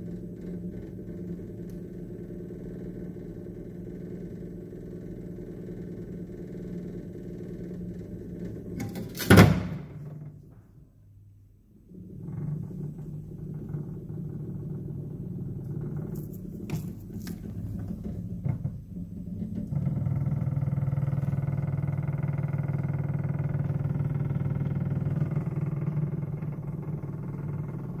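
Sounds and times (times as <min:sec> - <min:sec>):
refrigerator humming: 0:00.0 - 0:28.0.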